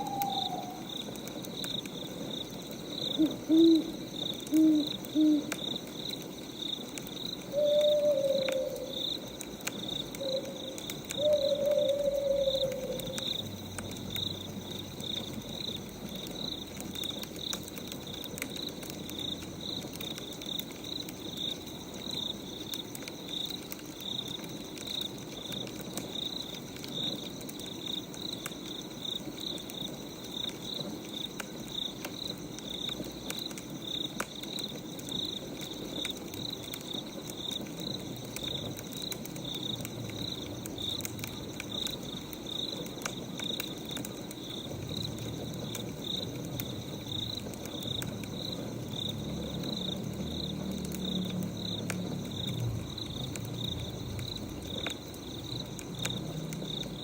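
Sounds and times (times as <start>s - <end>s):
crickets chirping: 0.0s - 57.0s
wood fire crackling and popping: 0.0s - 57.0s.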